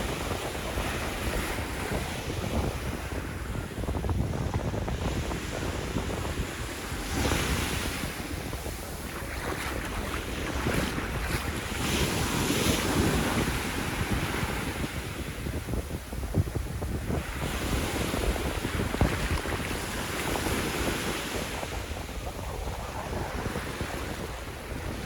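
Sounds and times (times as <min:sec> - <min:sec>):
sea waves breaking on beach: 0:00.0 - 0:25.0
wind buffeting microphone: 0:00.0 - 0:25.0.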